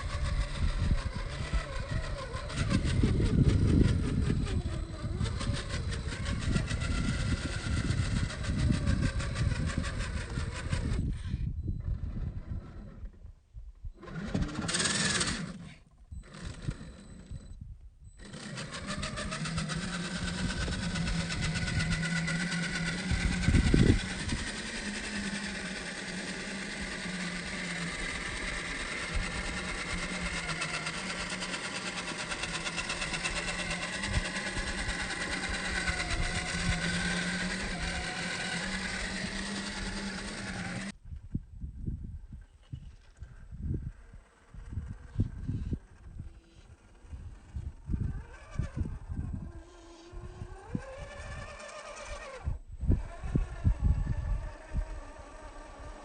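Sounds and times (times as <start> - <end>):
toy car electric motor whirring: 0.0 - 13.2, 14.0 - 41.0, 42.4 - 56.0.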